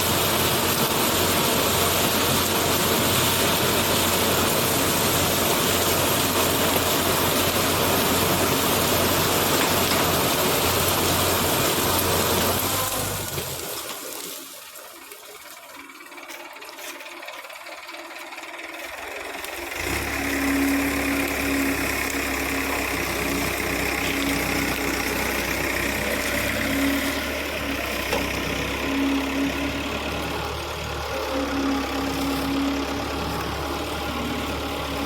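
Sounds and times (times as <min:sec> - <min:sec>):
harvester engine droning: 0:00.0 - 0:35.0.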